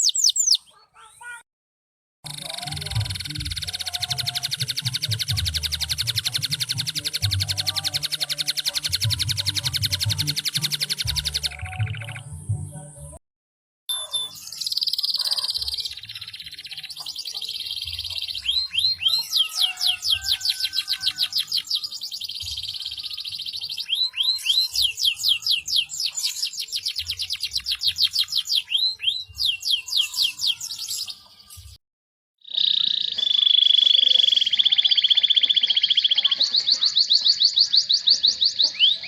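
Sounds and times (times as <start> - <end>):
canary singing trills: 0.0 - 1.4, 2.3 - 12.5, 13.9 - 31.8, 32.4 - 39.0.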